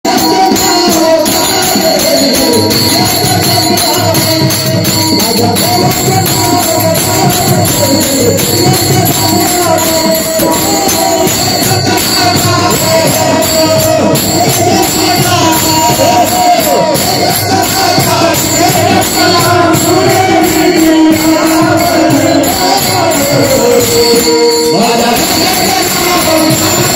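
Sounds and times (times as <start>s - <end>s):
jingling metal percussion: 0.0s - 26.9s.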